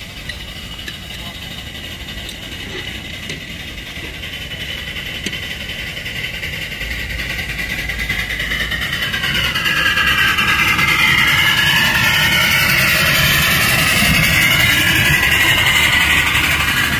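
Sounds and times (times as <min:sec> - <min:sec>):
steam locomotive running: 0:00.0 - 0:16.9.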